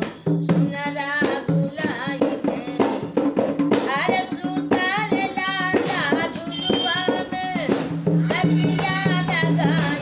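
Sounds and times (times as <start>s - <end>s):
hand drum beating: 0.0s - 10.0s
woman singing: 0.2s - 10.0s.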